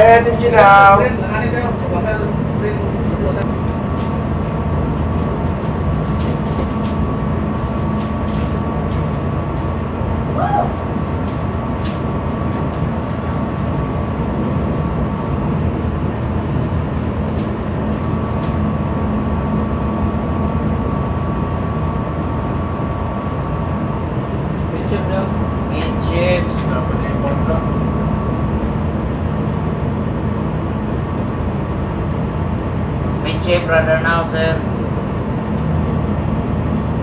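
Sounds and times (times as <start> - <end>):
faint steady whine: 0.0 - 37.0
ship engine rumbling: 0.0 - 37.0.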